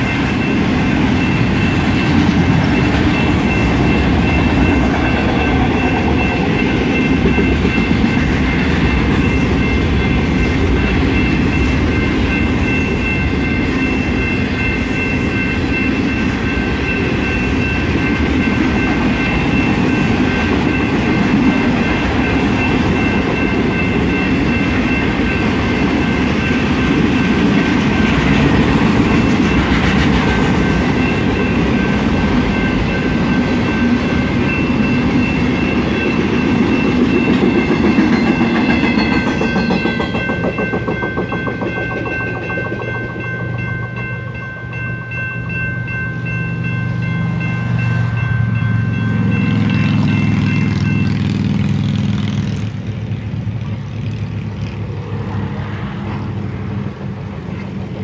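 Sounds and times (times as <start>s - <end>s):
high ringing tone: 0.0s - 29.9s, 30.5s - 51.3s
freight train rumbling over rails: 0.0s - 58.0s.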